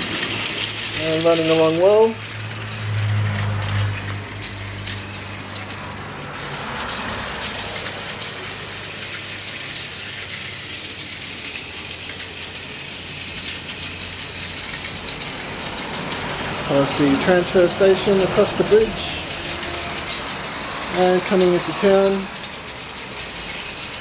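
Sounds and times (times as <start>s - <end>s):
toy train motor whirring: 0.0s - 24.0s
wheels and gears clicking: 0.0s - 24.0s.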